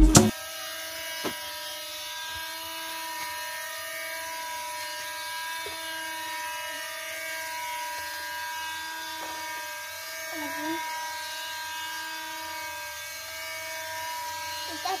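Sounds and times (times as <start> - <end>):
small electric motors whining: 0.3 - 15.0.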